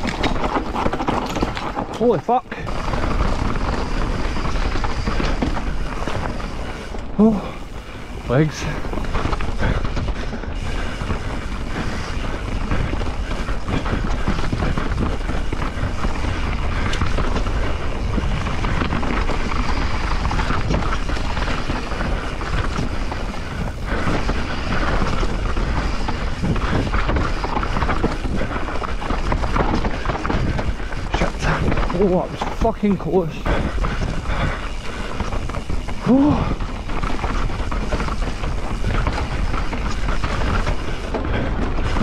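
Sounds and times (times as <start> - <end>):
wind noise on microphone: 0.0 - 32.6, 33.4 - 42.0
bike knocks and rattles: 0.0 - 42.0
tyres skittering over loose dirt: 0.0 - 42.0.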